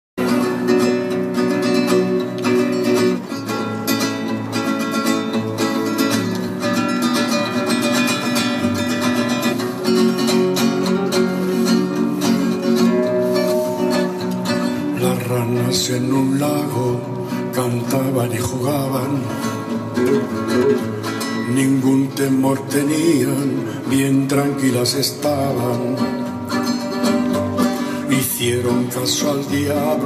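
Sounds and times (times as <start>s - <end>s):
acoustic guitar playing: 0.2s - 30.0s.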